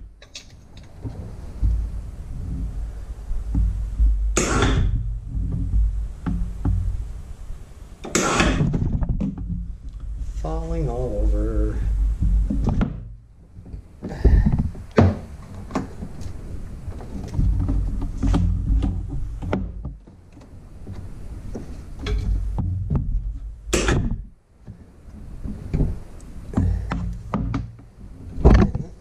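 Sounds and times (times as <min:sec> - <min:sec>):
low rumble: 0:00.0 - 0:20.0, 0:20.6 - 0:24.4.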